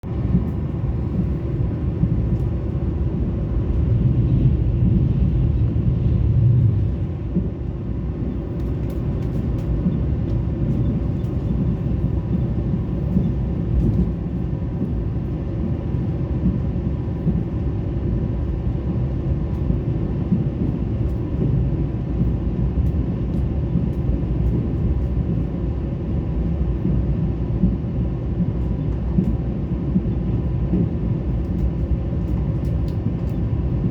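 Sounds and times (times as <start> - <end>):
train running rumble: 0.0 - 33.9.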